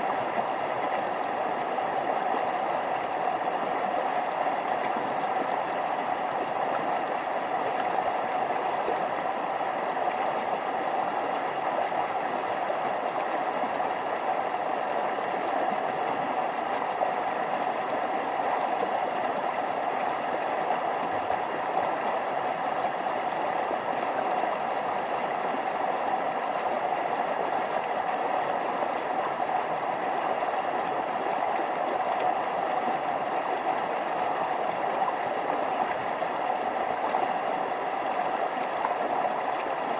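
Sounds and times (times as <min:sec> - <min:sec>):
stream rushing over small waterfalls: 0:00.0 - 0:39.9.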